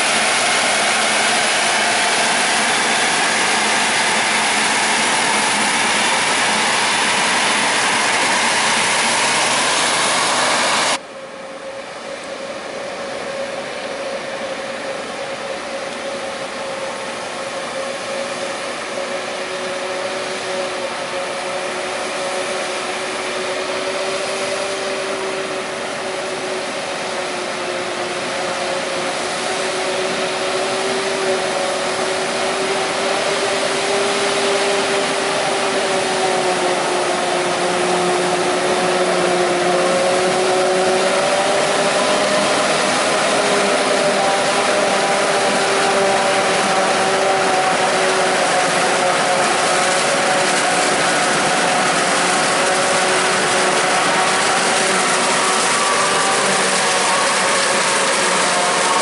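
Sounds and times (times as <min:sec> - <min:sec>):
constant mechanical whine: 0:00.0 - 0:59.0
heavy diesel machinery running: 0:00.0 - 0:59.0.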